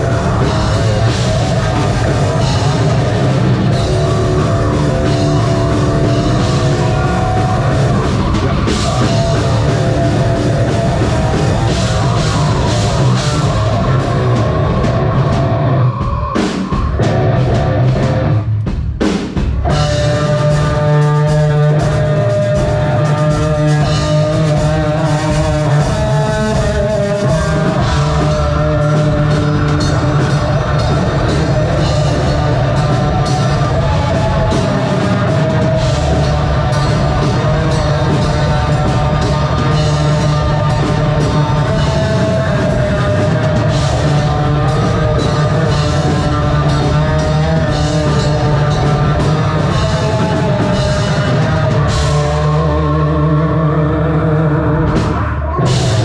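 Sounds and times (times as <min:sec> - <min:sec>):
metal band playing live: 0:00.0 - 0:56.0.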